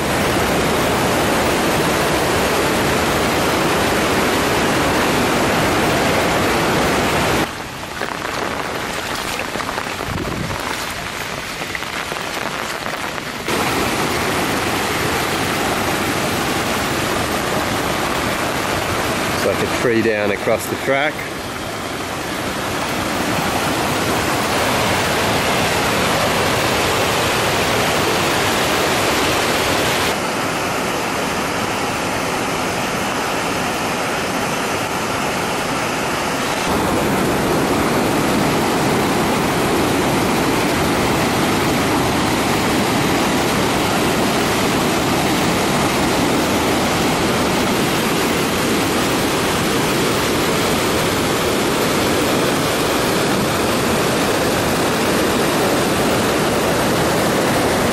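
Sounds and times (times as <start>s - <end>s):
floodwater rushing over rocks: 0.0s - 57.9s.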